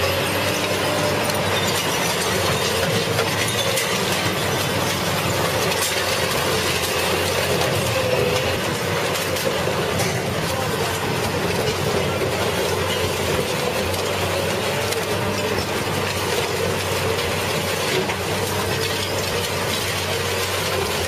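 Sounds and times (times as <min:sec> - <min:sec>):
heavy machine whining: 0:00.0 - 0:21.0.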